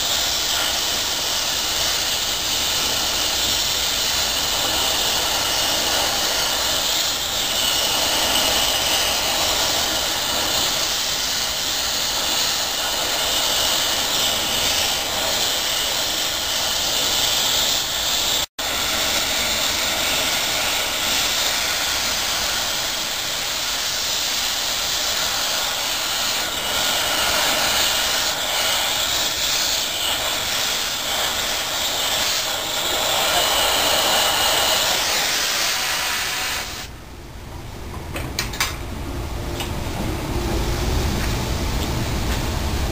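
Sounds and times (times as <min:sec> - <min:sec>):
foundry equipment roaring hiss: 0:00.0 - 0:37.0, 0:38.4 - 0:42.9.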